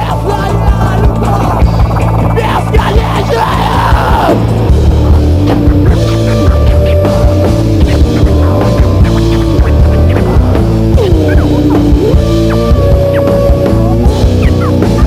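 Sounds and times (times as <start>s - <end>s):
heavy rock band playing live: 0.0s - 15.0s
regular drum beat: 0.0s - 15.0s.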